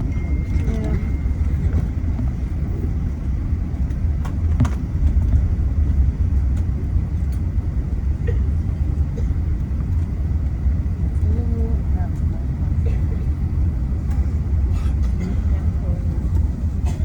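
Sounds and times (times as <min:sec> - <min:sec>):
aircraft cabin low rumble: 0:00.0 - 0:17.0.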